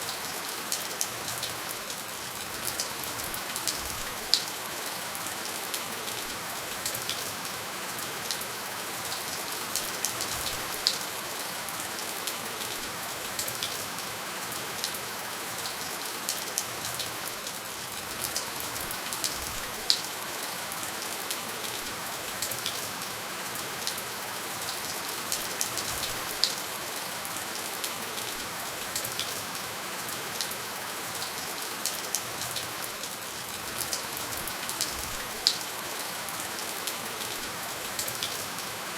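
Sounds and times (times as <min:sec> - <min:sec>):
rain hissing: 0:00.0 - 0:38.9
raindrops ticking on a surface: 0:00.0 - 0:38.9.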